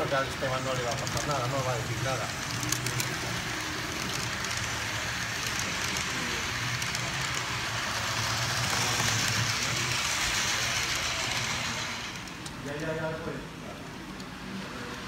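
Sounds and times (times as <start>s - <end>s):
model train coaches rumbling: 0.0s - 15.0s
wheels hissing on rails: 0.0s - 15.0s.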